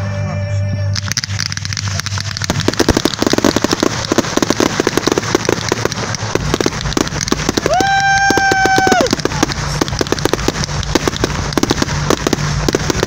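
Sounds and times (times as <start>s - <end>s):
fireworks crackling and popping: 1.0s - 13.0s.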